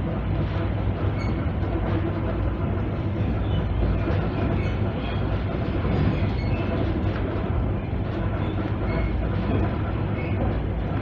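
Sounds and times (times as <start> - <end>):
train running gear rumbling: 0.0 - 11.0.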